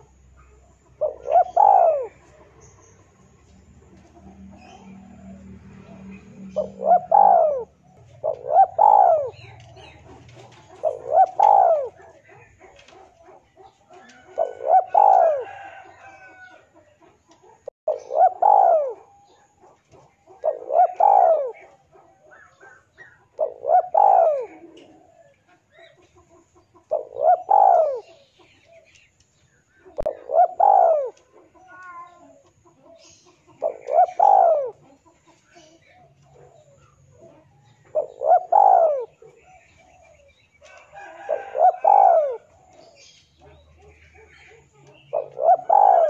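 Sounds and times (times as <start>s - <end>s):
dove cooing: 0.0s - 28.9s, 29.7s - 46.0s.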